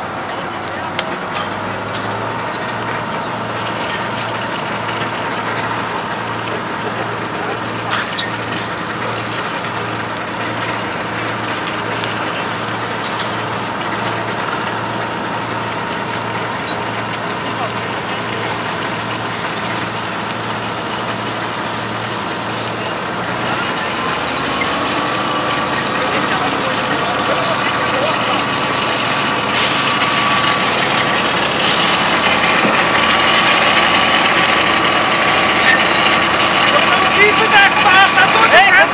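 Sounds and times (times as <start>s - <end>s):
fire engine idling: 0.0s - 38.9s.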